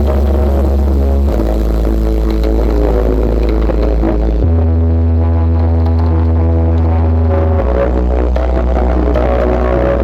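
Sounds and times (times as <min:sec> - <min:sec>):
bass-heavy electronic music: 0:00.0 - 0:10.0.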